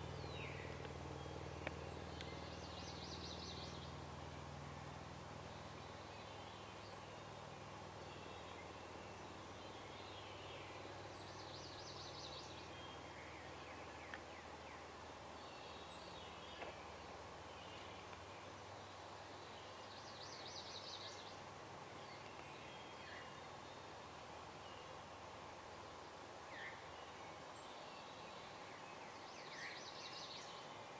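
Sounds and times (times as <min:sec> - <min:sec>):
songbird chirps: 0:00.0 - 0:30.9
steady low hiss: 0:00.0 - 0:30.9.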